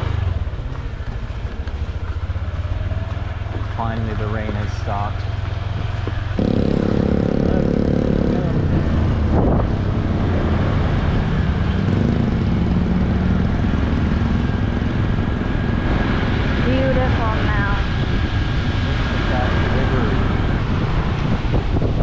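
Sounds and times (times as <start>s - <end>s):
low engine hum: 0.0s - 22.0s
motorcycle engine running: 0.0s - 22.0s.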